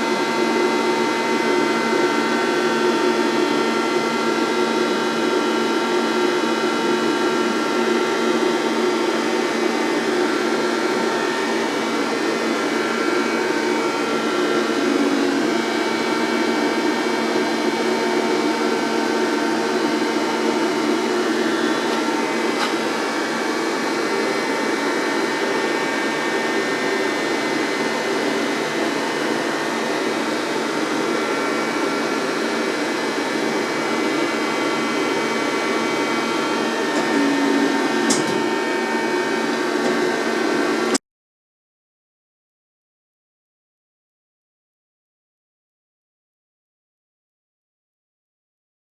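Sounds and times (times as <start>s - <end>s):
lathe machine hum with whining: 0.0s - 41.0s.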